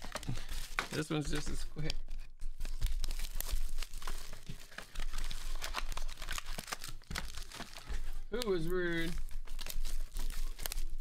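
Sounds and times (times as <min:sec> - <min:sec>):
foil card pack crinkling: 0:00.0 - 0:11.0.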